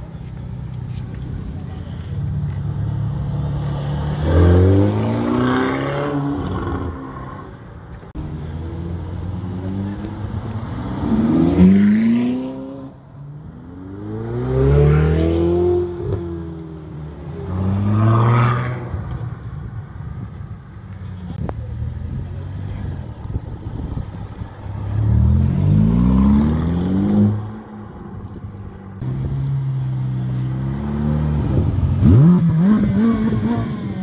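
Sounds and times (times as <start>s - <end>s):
sports car engines revving: 0.2s - 20.8s, 21.4s - 34.0s.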